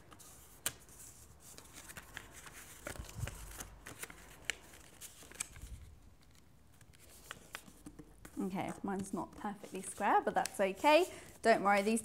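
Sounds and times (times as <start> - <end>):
paper crackling and clicking: 1.5 - 12.0.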